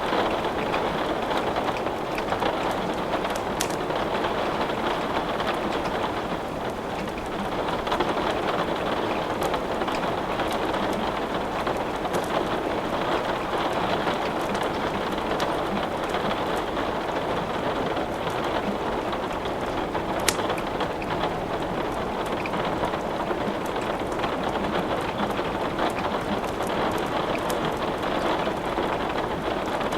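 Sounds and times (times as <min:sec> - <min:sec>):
rain hiss: 0:00.0 - 0:29.9
wood crackling in a fireplace: 0:00.0 - 0:29.9.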